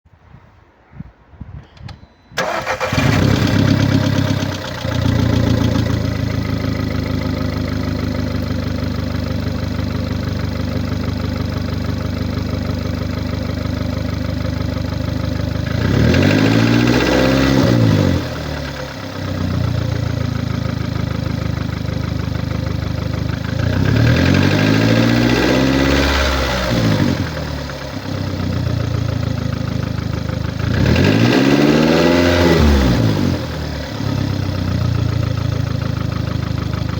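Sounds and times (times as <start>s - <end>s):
car engine starting and revving: 2.4s - 36.9s.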